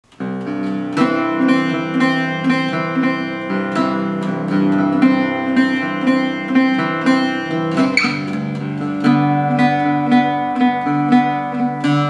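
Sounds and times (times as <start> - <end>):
mandocello picked notes: 0.2 - 12.0.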